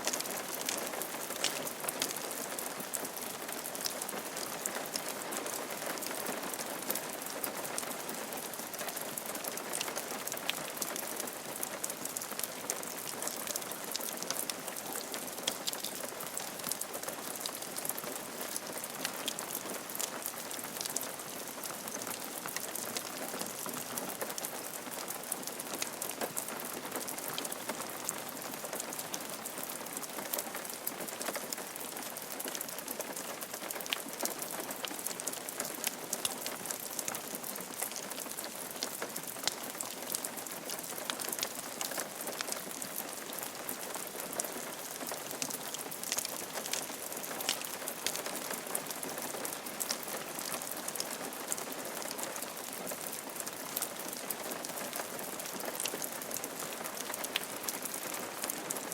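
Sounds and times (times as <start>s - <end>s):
rain falling on a roof: 0.0s - 58.9s.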